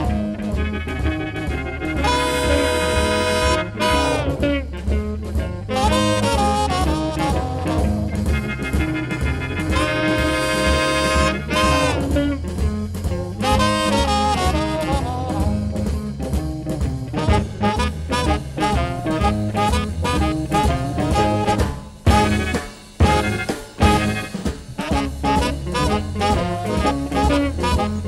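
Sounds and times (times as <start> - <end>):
horns playing chords and riffs: 0.0 - 16.1, 17.1 - 28.0
bass and drum beat: 0.0 - 28.0.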